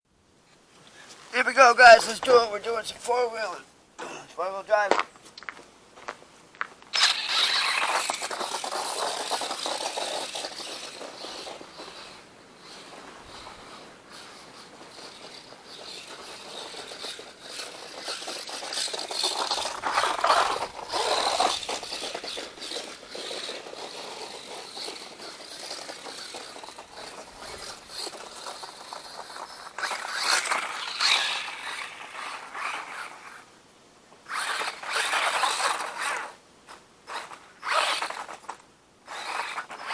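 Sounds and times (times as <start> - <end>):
rc truck motor whining: 6.9 - 33.5, 34.2 - 39.9
scraping and rattling: 7.0 - 33.4, 34.3 - 39.9.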